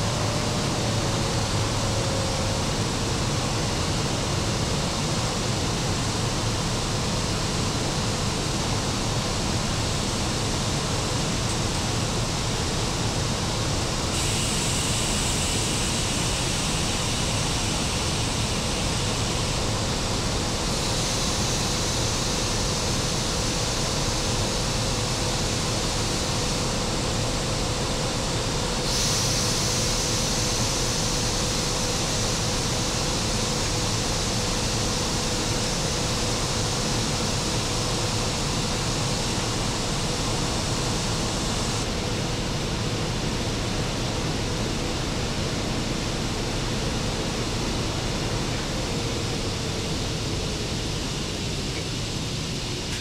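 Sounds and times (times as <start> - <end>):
electric locomotive machine noise: 0.0 - 53.0.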